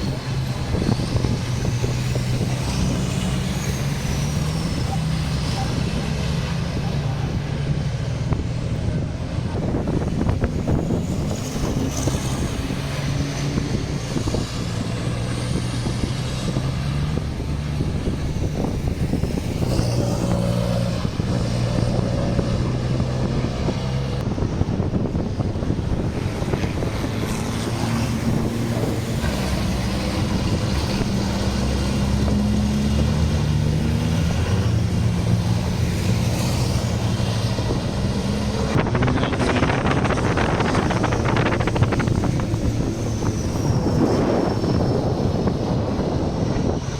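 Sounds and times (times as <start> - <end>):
truck engines revving: 0.0 - 46.9
wind buffeting microphone: 0.0 - 46.9.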